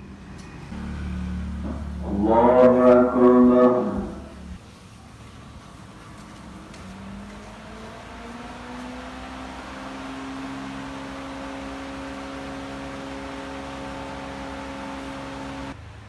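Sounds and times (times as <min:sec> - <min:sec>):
small engine running: 0:00.7 - 0:15.8.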